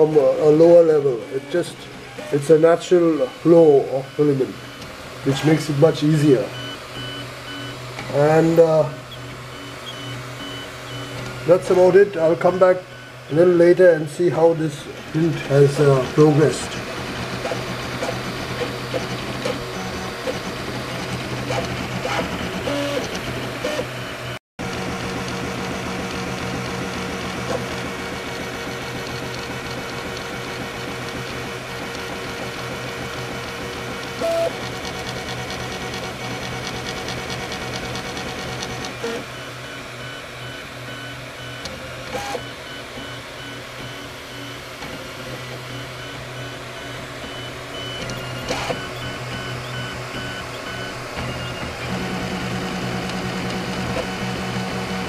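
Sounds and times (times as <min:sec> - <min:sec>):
fan hum: 0:00.0 - 0:55.0
stepper motors whining: 0:00.0 - 0:55.0.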